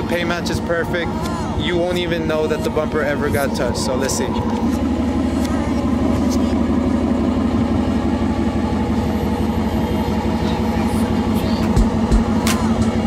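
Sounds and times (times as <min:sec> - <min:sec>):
pickup engine idling: 0:00.0 - 0:13.0.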